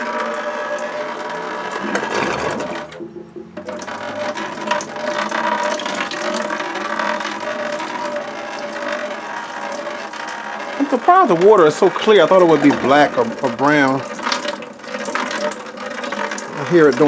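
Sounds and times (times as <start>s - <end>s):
water draining into bucket: 0.0s - 17.0s.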